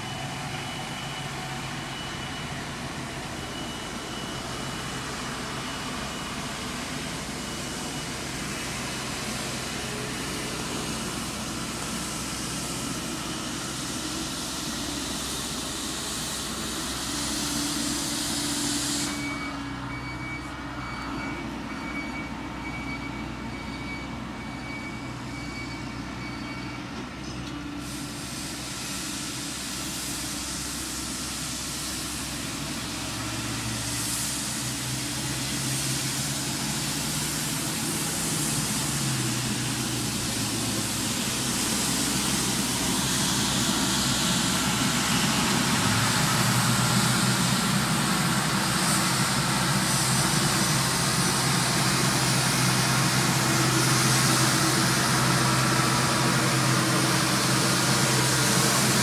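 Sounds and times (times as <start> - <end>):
street sweeper running: 0.0 - 59.0.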